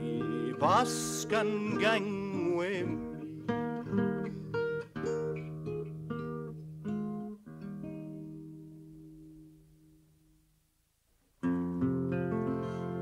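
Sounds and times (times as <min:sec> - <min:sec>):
acoustic guitar plucking and strumming: 0:00.0 - 0:10.4, 0:11.4 - 0:13.0.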